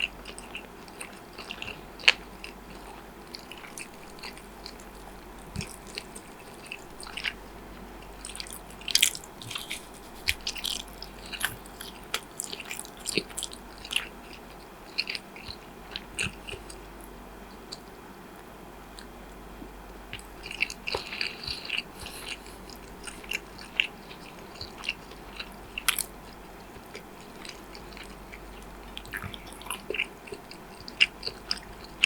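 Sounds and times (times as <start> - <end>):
chewing and biting food: 0.0 - 19.2, 20.1 - 32.0
faint steady hum: 0.0 - 32.0.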